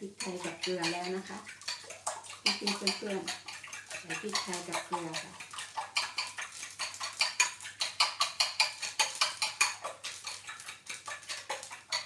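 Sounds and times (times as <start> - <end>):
metal utensil beating eggs in bowl: 0.0 - 12.0.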